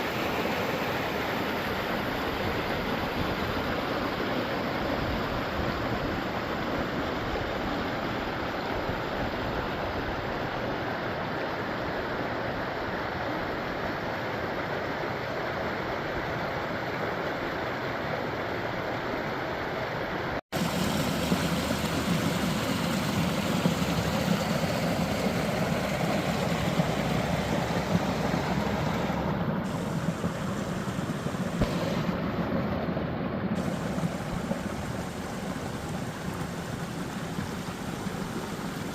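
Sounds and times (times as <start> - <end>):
stream rushing and babbling: 0.0 - 38.9.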